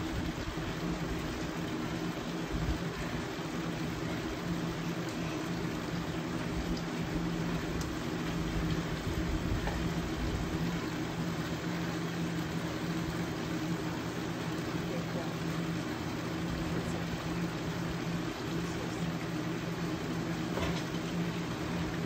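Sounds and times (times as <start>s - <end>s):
machine hum: 0.0s - 22.0s
noisy background: 0.0s - 22.0s.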